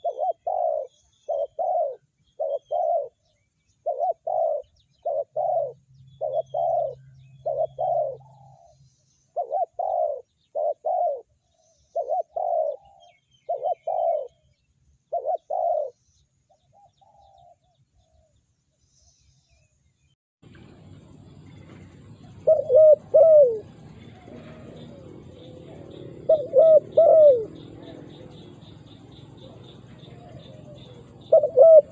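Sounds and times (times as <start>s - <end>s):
dove cooing: 0.0s - 14.4s, 15.1s - 16.0s, 16.6s - 18.3s, 21.6s - 31.9s.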